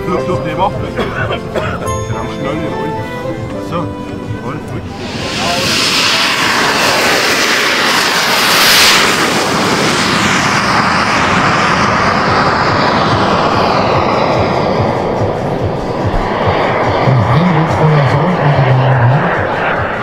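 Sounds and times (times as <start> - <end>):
jet turbine roar and whine: 0.0 - 20.0.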